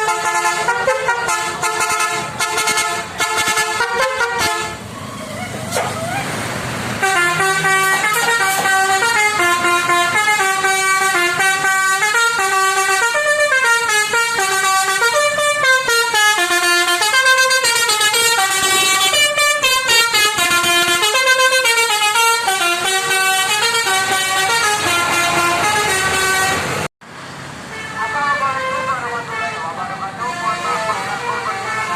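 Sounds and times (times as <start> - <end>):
bus horn playing a melody: 0.0 - 4.8, 7.0 - 26.9, 27.7 - 31.9.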